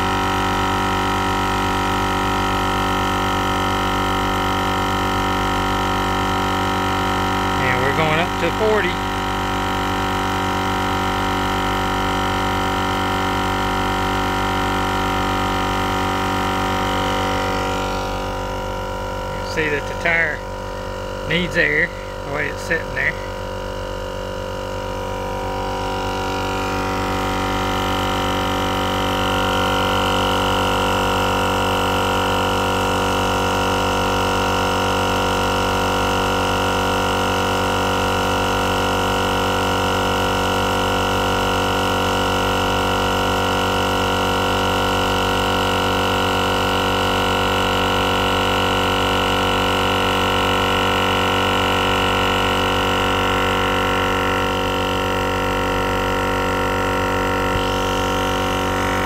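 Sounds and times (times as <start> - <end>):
air compressor droning: 0.0 - 59.0.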